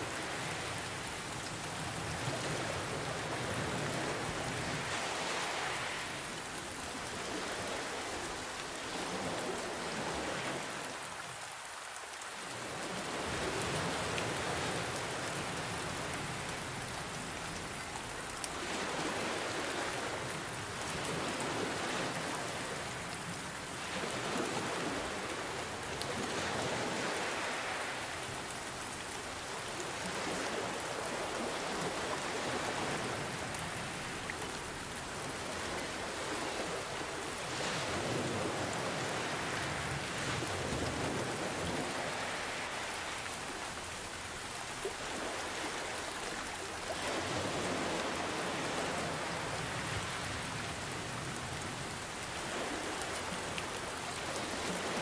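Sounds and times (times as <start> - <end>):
ocean waves: 0.0 - 55.0
steady rain: 0.0 - 55.0.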